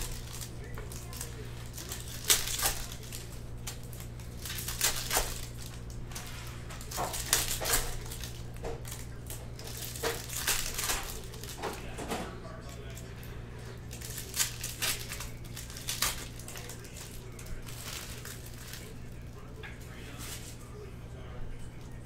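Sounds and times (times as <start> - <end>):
card packs crinkling and tearing: 0.0 - 20.6.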